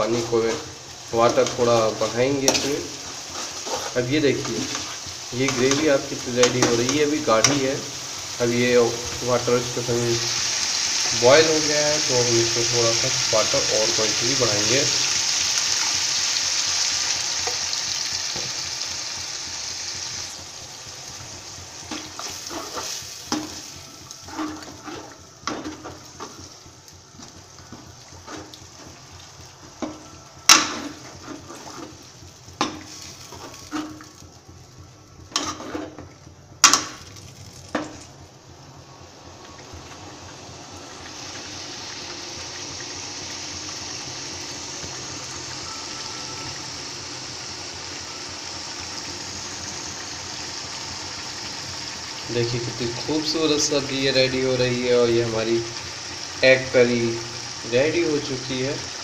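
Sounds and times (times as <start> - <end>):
gravy sizzling in a pan: 0.0 - 59.0.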